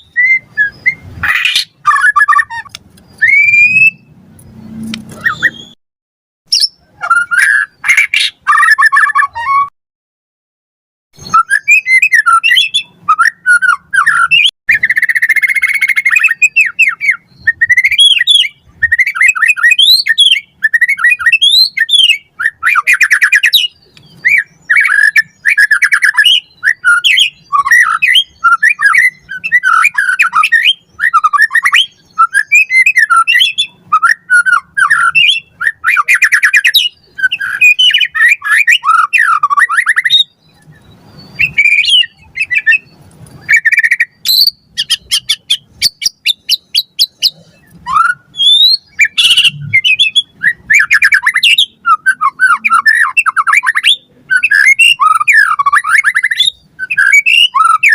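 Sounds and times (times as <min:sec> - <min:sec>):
bird singing varied song: 0:00.0 - 0:05.8, 0:06.5 - 0:09.7, 0:11.2 - 0:57.9.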